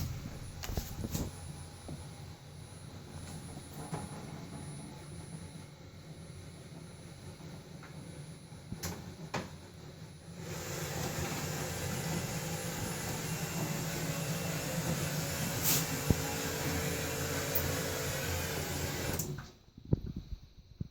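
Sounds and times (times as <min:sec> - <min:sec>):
garage door opener motor running: 0:02.0 - 0:19.6.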